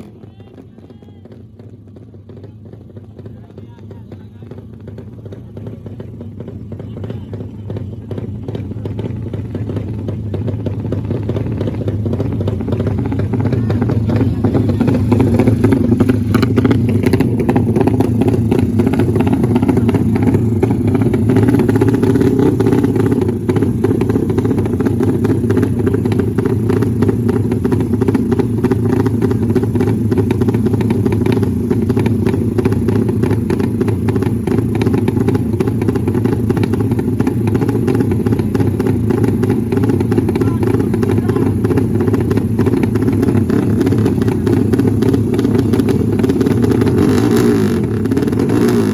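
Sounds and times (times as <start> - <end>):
motorcycle engines running: 0.0 - 48.9.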